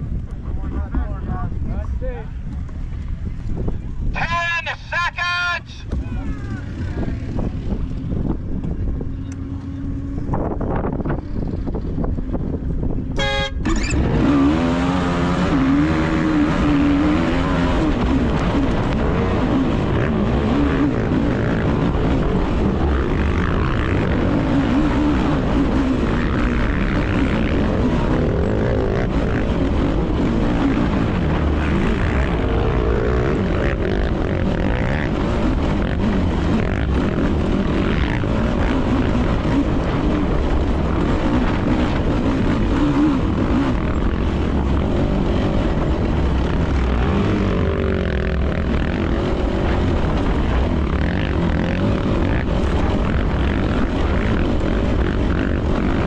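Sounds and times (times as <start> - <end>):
other racing quads: 0.0 - 56.0
atv engine revving: 5.8 - 56.0.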